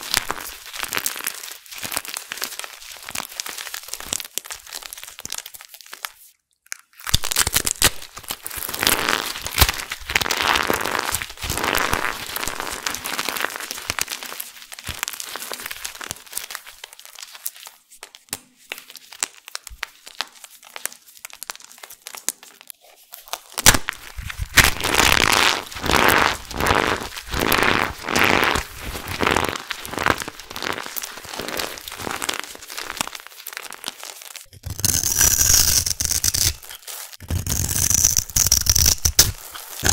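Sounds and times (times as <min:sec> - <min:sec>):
soap pieces crunching in hands: 0:00.0 - 0:39.9.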